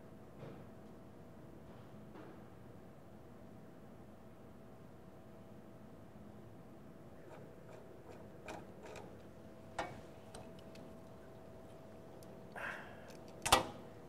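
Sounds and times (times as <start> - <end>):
faint steady hum: 2.6 - 14.0.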